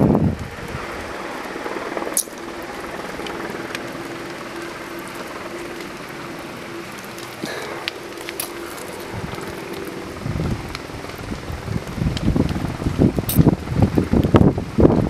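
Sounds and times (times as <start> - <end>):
vegetation burning with crackles: 0.0 - 15.0.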